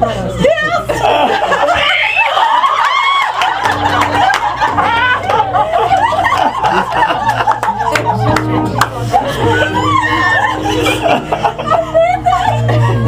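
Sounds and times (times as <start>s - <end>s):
crowd chattering: 0.0s - 13.0s
bursts of laughter: 0.9s - 8.3s, 9.1s - 13.0s.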